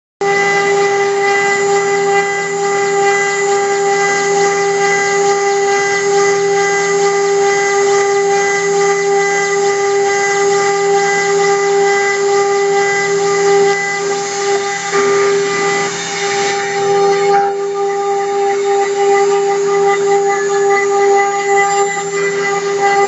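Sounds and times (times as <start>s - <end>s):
cnc spindle high-pitched whine: 0.2s - 23.0s
cutter engraving copper plate: 0.2s - 23.0s.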